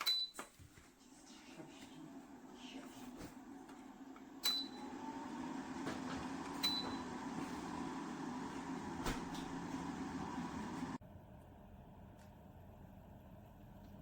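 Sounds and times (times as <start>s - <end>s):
fan heater humming: 0.7s - 14.0s.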